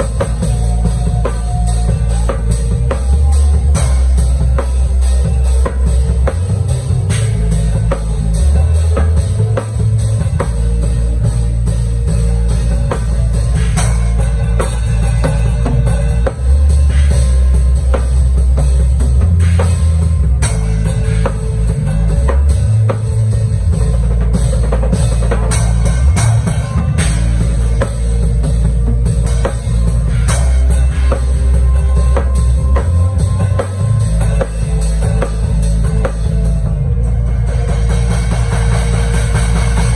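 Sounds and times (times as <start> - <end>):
drum kit groove: 0.0 - 39.9
low bass line: 0.0 - 39.9.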